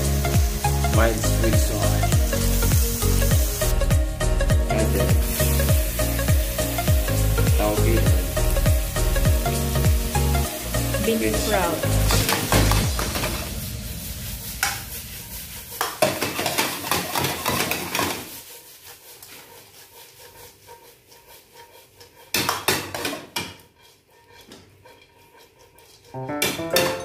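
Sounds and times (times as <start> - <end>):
light sizzling: 0.0 - 22.6
metal spatula scraping a wok: 0.0 - 27.0.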